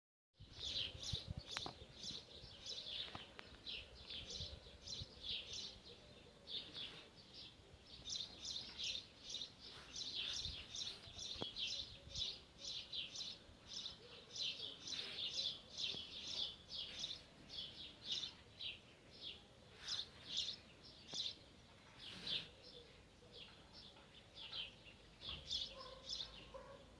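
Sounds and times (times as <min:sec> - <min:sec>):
small birds chirping rapidly: 0:00.4 - 0:26.9.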